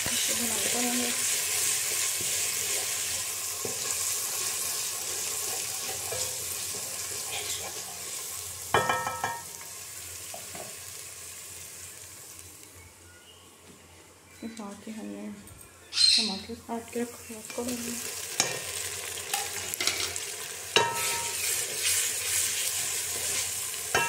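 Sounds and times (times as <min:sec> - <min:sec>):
onions sizzling in a pot: 0:00.0 - 0:12.8, 0:16.2 - 0:24.0.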